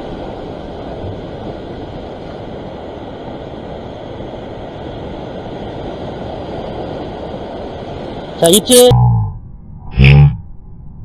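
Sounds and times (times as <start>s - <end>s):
sea surf on rocks: 0.0s - 8.9s.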